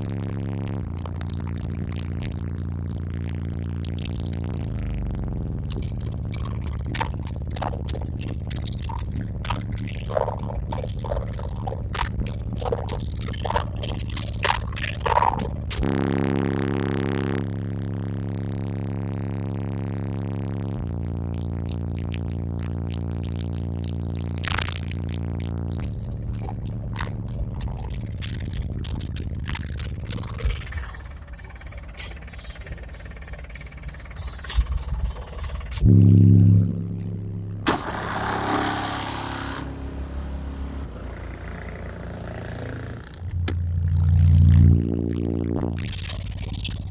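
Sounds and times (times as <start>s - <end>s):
subwoofers droning sub-bass: 0.0s - 46.9s.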